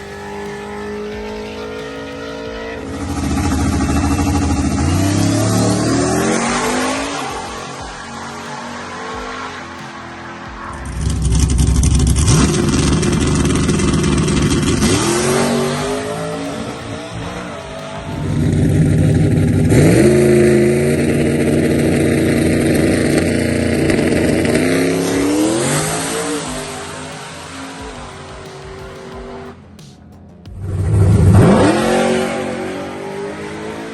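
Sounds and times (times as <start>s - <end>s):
pickup truck engines at full throttle: 0.0s - 29.7s, 30.3s - 33.9s.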